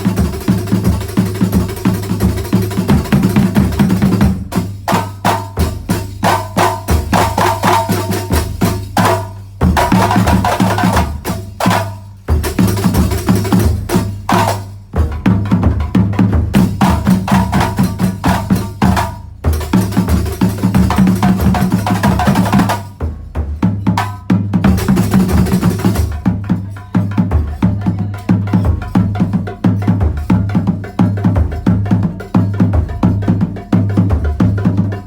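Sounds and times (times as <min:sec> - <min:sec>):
frame drum ensemble playing: 0:00.0 - 0:35.0.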